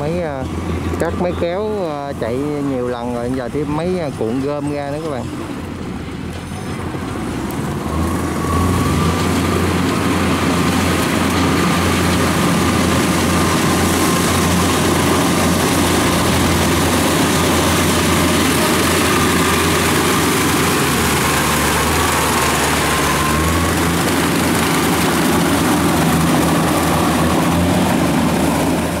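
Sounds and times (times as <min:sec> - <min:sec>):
crawler engine running: 0:00.0 - 0:29.0.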